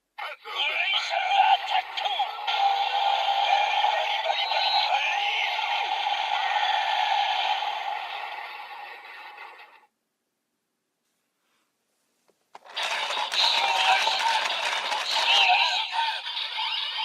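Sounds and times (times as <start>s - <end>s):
toy electronic sound effects and music: 0.5s - 9.8s, 12.6s - 17.0s.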